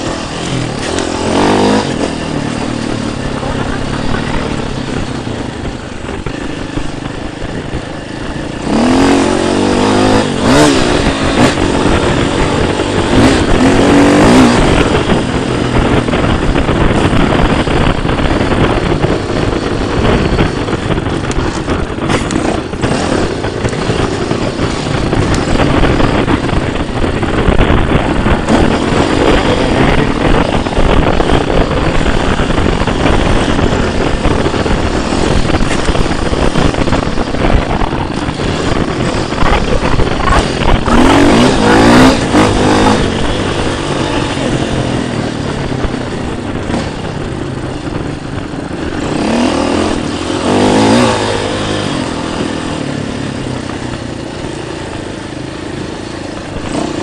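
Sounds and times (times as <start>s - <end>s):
dirt bike engine revving: 0.0s - 53.5s, 56.2s - 57.0s.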